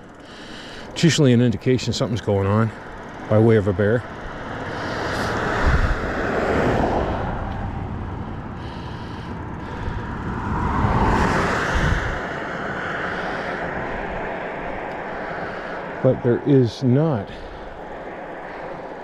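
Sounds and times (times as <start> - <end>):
vehicles passing on highway: 0.0 - 19.0.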